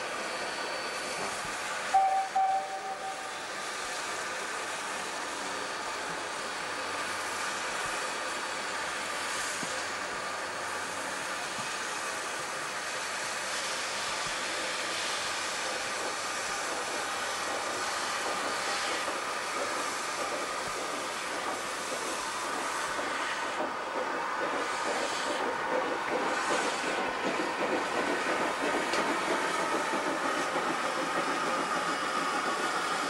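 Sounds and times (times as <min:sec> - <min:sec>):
steam hissing: 0:00.0 - 0:33.0
steam locomotive moving slowly: 0:00.0 - 0:33.0.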